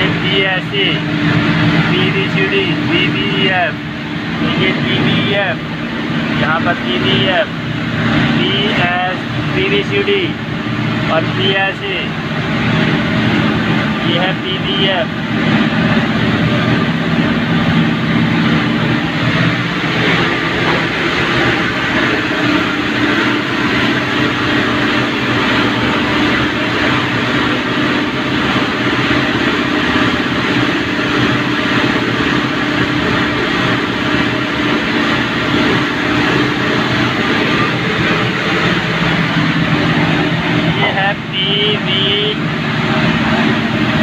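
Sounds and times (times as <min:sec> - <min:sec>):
locomotive machinery drone: 0:00.0 - 0:44.0.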